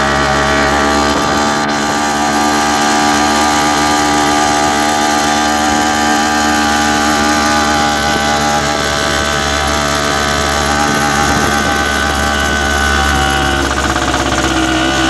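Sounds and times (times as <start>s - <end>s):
vehicle engine running steadily: 0.0s - 15.0s.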